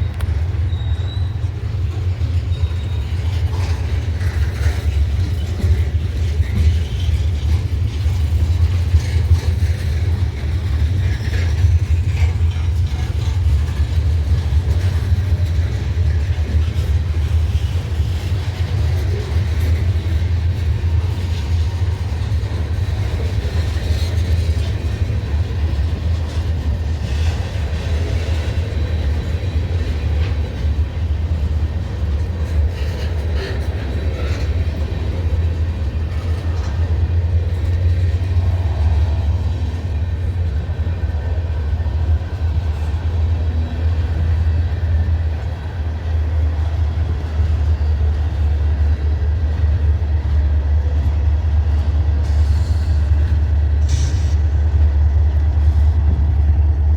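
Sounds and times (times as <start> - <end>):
diesel locomotive rumble: 0.0 - 56.9
train cars knocking: 0.0 - 56.9.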